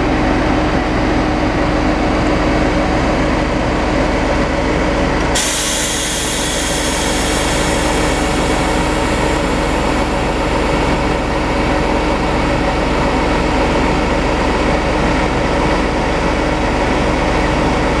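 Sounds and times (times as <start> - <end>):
locomotive engine idling: 0.0 - 15.5.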